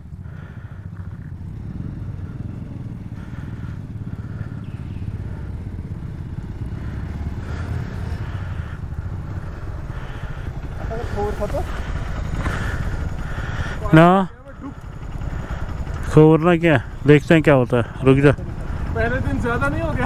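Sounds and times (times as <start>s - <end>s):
motorcycle engine at low revs: 0.0s - 20.0s.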